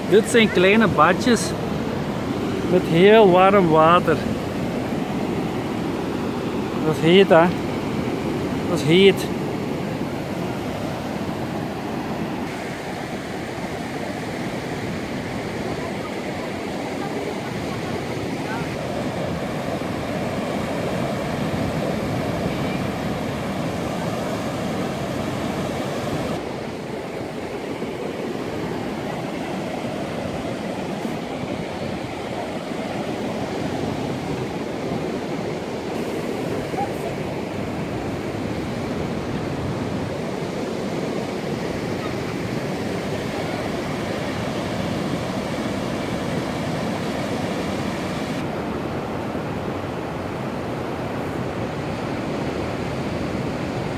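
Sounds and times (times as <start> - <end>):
ocean surf breaking over rocks: 0.0 - 53.9.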